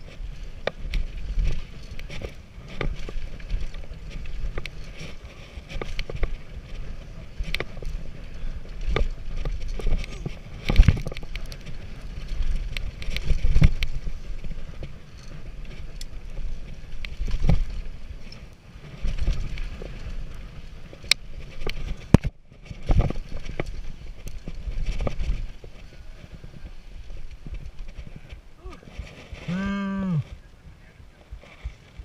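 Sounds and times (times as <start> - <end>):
bike chain and frame rattling: 0.0 - 29.6
wind noise on microphone: 0.0 - 32.0.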